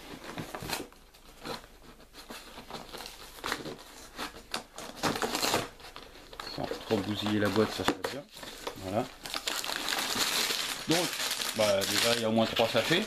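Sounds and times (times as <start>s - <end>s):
cardboard rustling: 0.0s - 13.0s.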